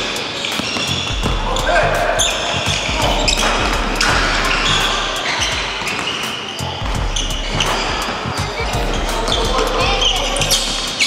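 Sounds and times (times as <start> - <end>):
basketballs bouncing on wooden floor: 0.0 - 10.2.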